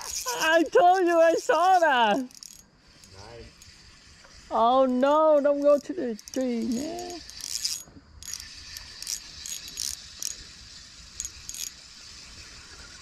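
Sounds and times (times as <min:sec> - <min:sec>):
fishing reel clicking and whirring: 0:00.0 - 0:13.0.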